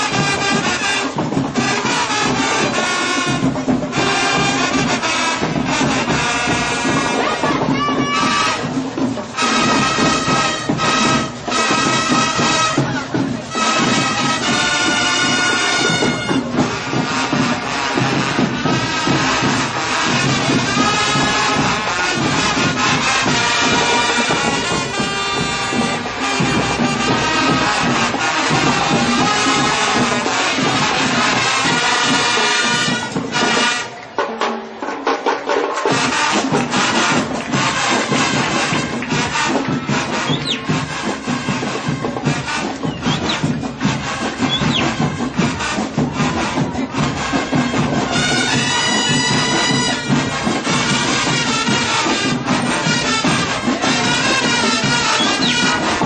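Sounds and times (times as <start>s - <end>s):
drums and percussion hits: 0.0s - 56.0s
marching band playing: 0.0s - 56.0s.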